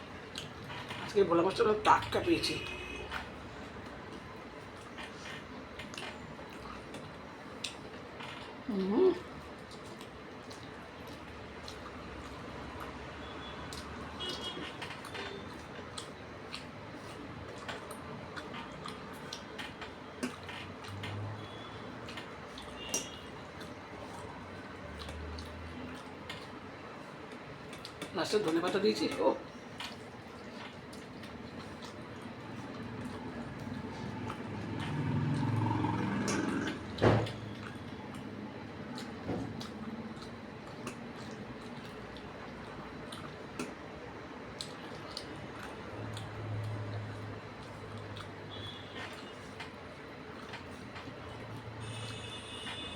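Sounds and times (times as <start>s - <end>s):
chewing smacks: 0.0s - 52.9s
fingers mixing food: 0.0s - 52.9s.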